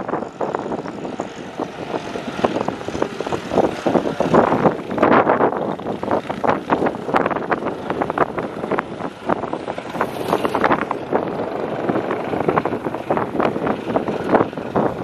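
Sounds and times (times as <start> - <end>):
tractor diesel engine under load: 0.1 - 15.0.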